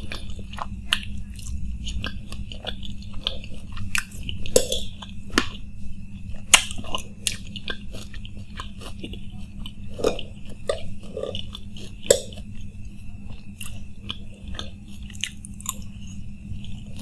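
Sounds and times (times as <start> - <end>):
crunchy chewing: 0.0 - 17.0
steady low hum: 0.0 - 17.0.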